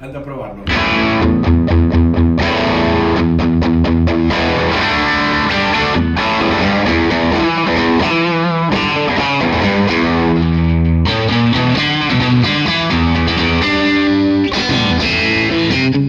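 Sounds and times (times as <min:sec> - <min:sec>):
distorted electric guitar: 0:00.6 - 0:16.0.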